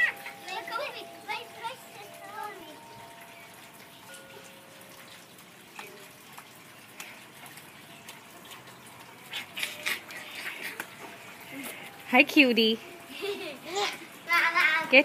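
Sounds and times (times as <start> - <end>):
rainwater dripping on concrete: 0.0 - 15.0
water splashes: 0.0 - 15.0.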